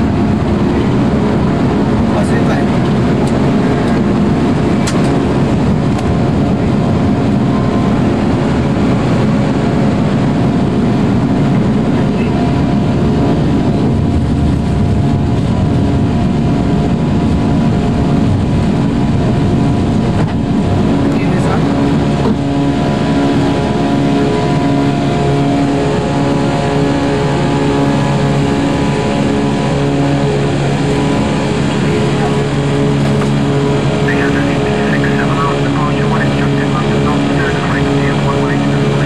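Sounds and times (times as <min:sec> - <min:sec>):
jet engine and airflow roar: 0:00.0 - 0:39.0.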